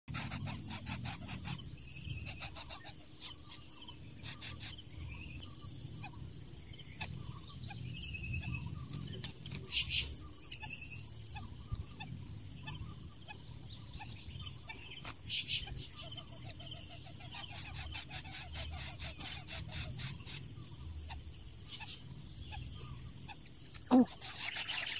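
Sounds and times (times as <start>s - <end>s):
insects droning: 0.1s - 24.9s.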